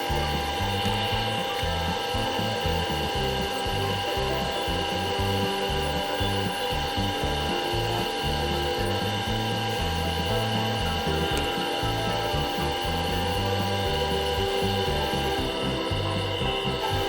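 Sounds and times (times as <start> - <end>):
wood lathe motor whine: 0.0 - 17.0.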